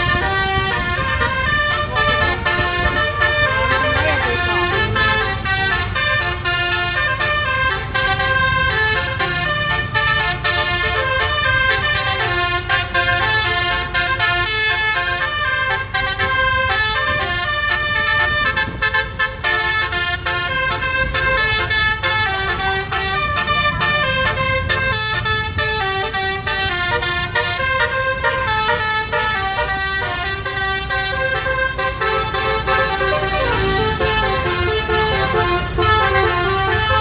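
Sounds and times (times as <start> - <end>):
bus air horn melody: 0.0 - 37.0.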